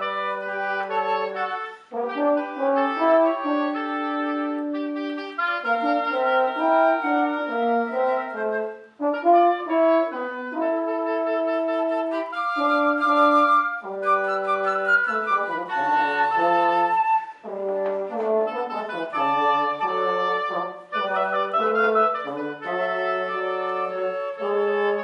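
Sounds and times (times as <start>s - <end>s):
wind trio playing in harmony: 0.0s - 25.0s.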